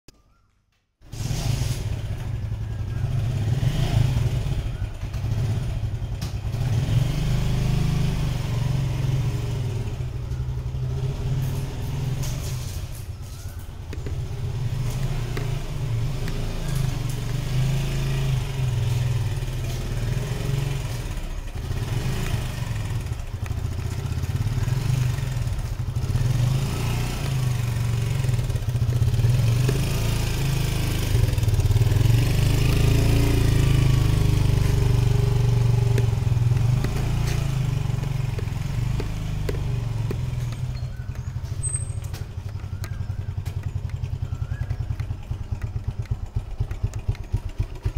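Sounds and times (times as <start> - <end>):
motorcycle engine at low speed: 1.0 - 47.9.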